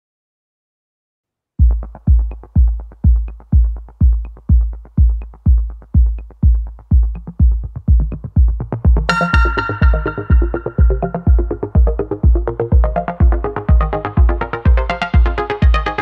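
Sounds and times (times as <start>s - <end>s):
deep kick drum: 1.6s - 16.0s
light ticking percussion: 1.6s - 16.0s.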